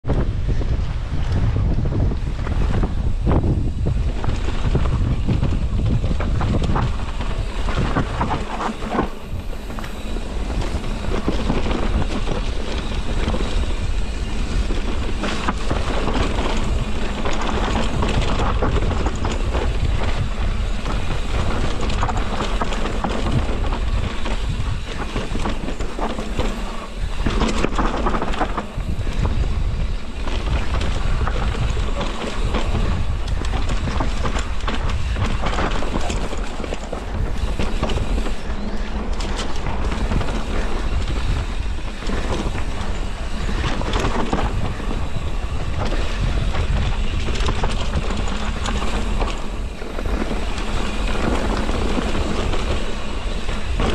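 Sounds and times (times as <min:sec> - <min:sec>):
wind buffeting microphone: 0:00.0 - 0:53.9
bike clattering on dirt: 0:02.2 - 0:53.9.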